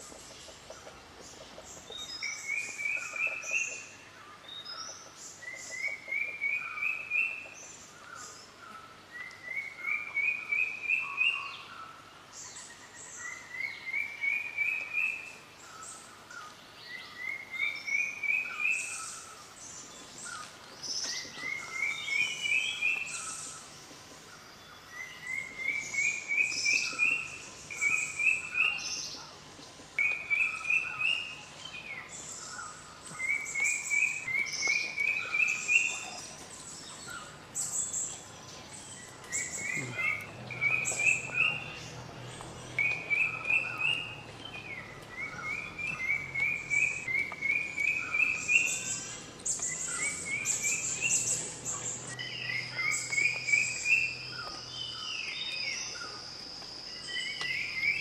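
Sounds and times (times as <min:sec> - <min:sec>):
other birds chirping: 0:00.0 - 0:58.0.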